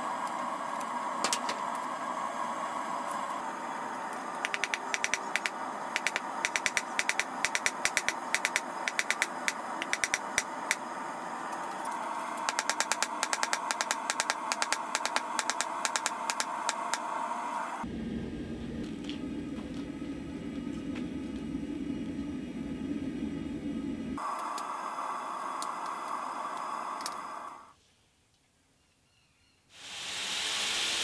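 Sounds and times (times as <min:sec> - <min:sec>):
steady background roar: 0:00.0 - 0:27.8.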